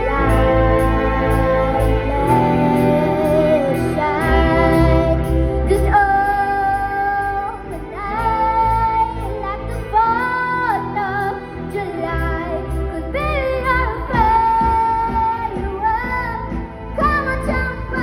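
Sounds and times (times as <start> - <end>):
band playing: 0.0 - 18.0
girl singing: 0.0 - 18.0.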